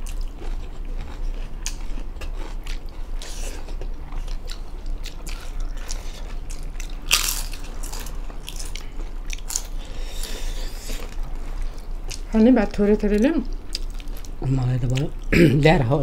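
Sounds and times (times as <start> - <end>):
chewing and mouth clicks: 0.0 - 12.3, 13.1 - 15.3.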